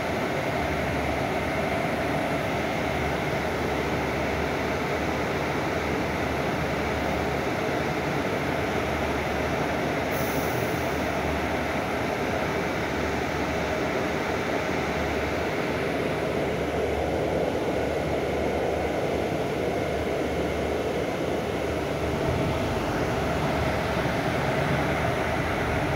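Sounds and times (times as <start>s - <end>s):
bus engine humming: 0.0s - 25.9s.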